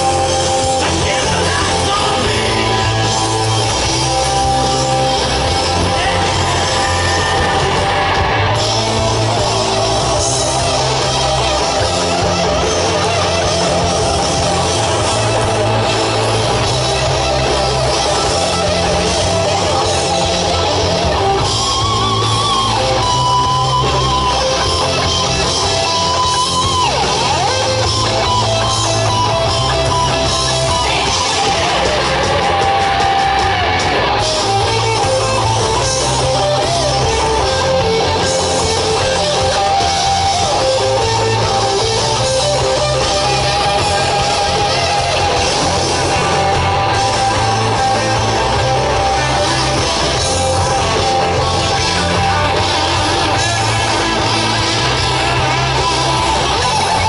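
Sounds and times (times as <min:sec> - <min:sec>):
bass and drums: 0:00.0 - 0:57.0
electric guitar lead: 0:00.0 - 0:57.0.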